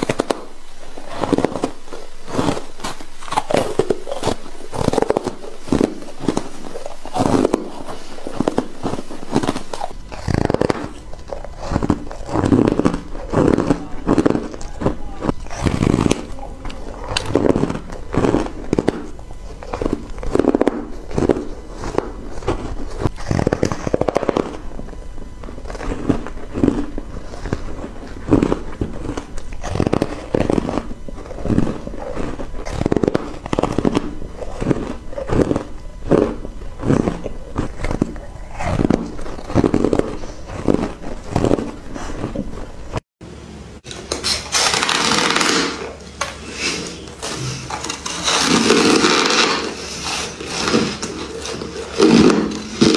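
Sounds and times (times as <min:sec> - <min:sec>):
hissy crunch biting ice bar: 0:00.0 - 0:43.0, 0:43.8 - 0:52.9
chewing frozen ice: 0:00.0 - 0:43.1, 0:43.8 - 0:52.9.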